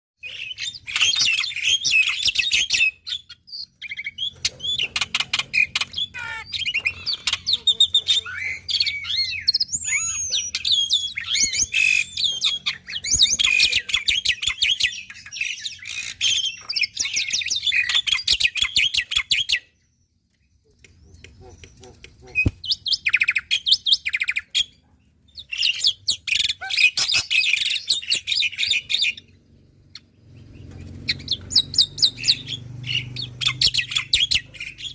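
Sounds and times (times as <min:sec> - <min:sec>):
bird singing chattering song: 0:00.2 - 0:34.9.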